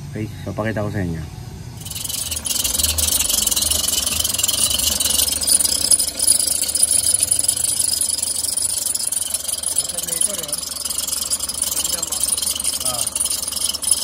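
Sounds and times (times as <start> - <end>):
van engine idling: 1.2 - 14.0.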